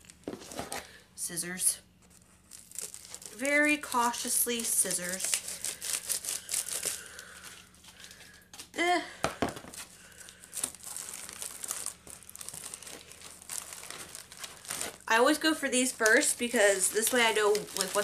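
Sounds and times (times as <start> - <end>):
bubble mailer crinkling and tearing: 2.1 - 8.2, 9.6 - 18.0.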